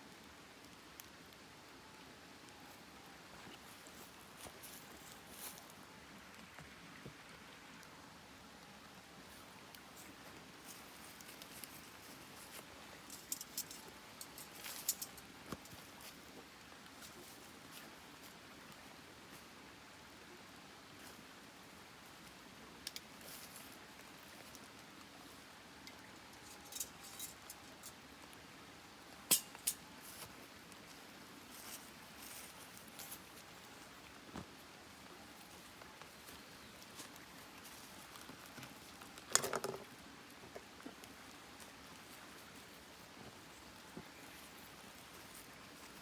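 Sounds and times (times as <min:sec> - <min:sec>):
campfire crackling: 0:00.0 - 0:46.0
faint steady hiss: 0:00.0 - 0:46.0.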